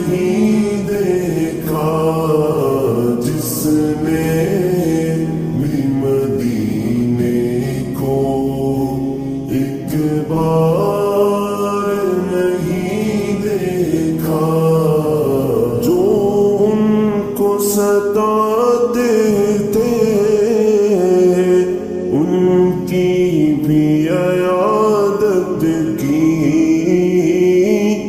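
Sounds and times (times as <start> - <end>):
devotional song with reverb: 0.0 - 28.0.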